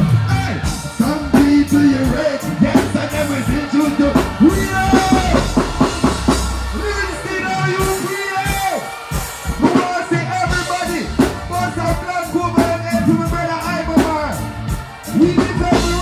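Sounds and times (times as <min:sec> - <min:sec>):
heavy bass line: 0:00.0 - 0:08.4, 0:10.5 - 0:16.0
drums: 0:00.0 - 0:16.0
reggae band playing: 0:00.0 - 0:16.0.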